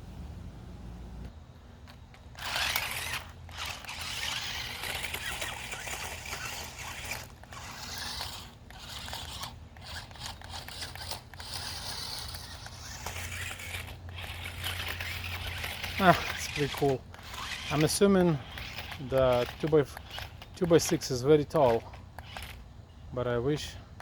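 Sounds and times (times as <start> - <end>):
wheels scraping: 0.0 - 22.6
toy car electric motors whirring: 1.8 - 24.0.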